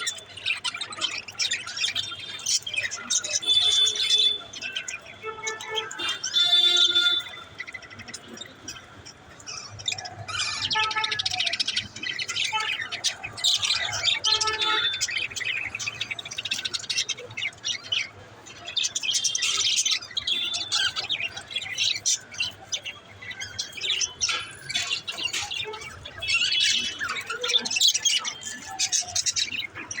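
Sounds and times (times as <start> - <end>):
pet birds chirping and warbling: 0.0 - 30.0.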